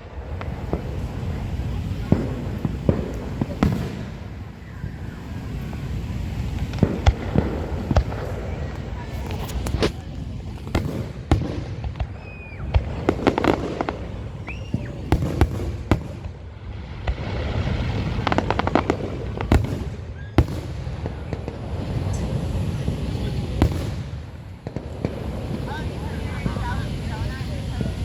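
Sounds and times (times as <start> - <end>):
fireworks bangs and pops: 0.0 - 28.0
fireworks crackling: 0.0 - 28.0.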